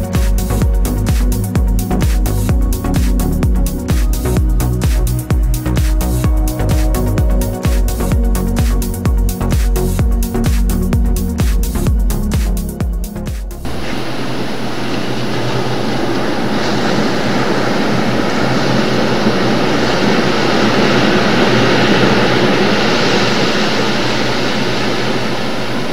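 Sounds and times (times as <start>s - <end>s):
open sea rushing: 0.0s - 25.9s
wind: 0.0s - 25.9s.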